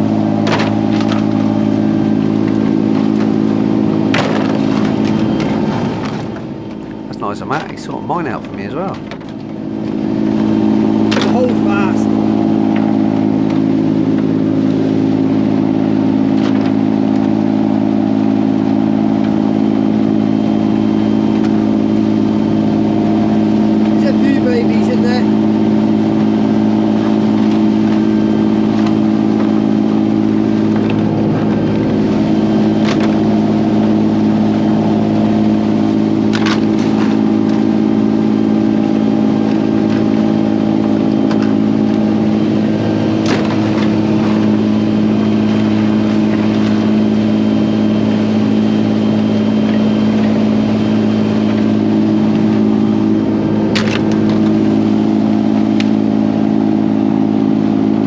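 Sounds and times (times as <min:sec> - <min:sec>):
boat engine drone: 0:00.0 - 0:58.0.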